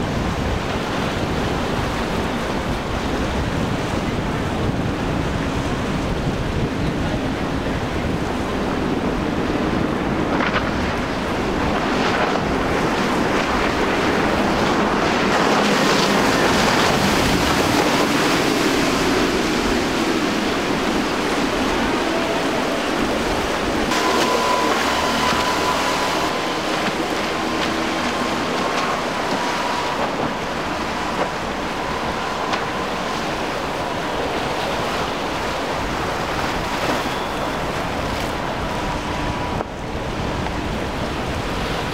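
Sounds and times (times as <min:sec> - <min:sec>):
boat engine whine: 0:00.0 - 0:41.9
surf rushing: 0:00.0 - 0:41.9
wind buffeting microphone: 0:00.0 - 0:41.9.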